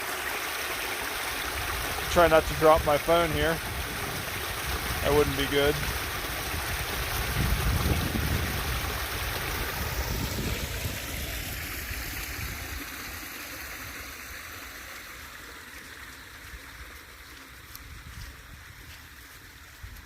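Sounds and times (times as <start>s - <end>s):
floodwater rushing: 0.0s - 19.8s.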